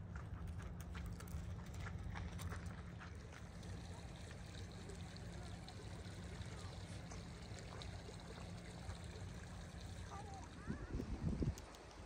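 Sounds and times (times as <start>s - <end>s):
water trickling: 0.8s - 12.0s.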